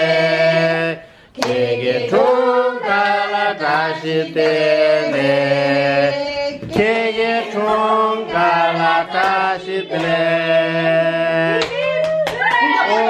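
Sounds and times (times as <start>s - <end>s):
voices chanting together: 0.0s - 11.8s.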